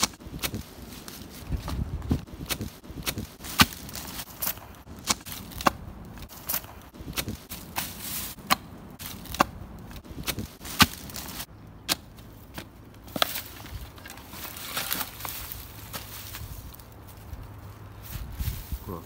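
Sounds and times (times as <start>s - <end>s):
dry leaves crunching: 0.0s - 19.0s.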